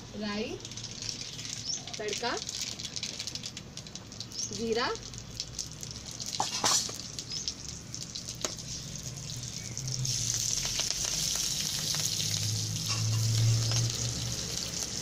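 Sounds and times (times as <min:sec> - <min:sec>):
hot oil sizzling: 0:00.0 - 0:15.0
seeds crackling: 0:00.5 - 0:15.0.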